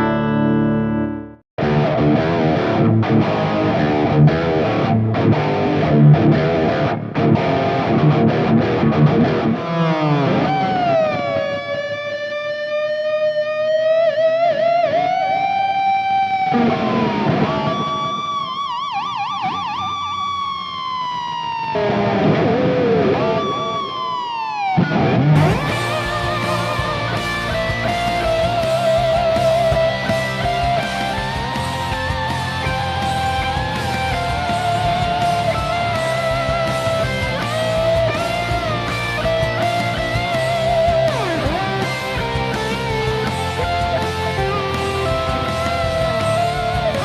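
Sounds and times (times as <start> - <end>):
distorted electric guitar riffing: 0.0 - 47.0.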